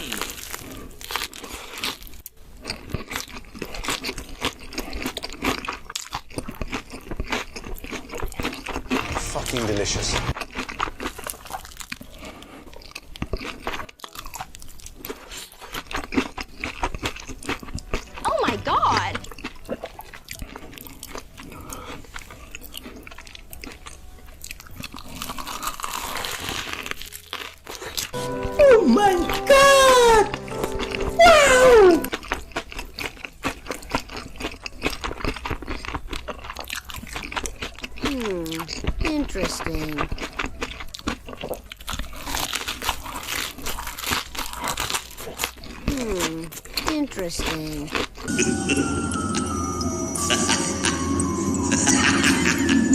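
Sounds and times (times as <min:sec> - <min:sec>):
person chewing crisp food: 0:00.0 - 0:28.2, 0:32.0 - 0:48.4.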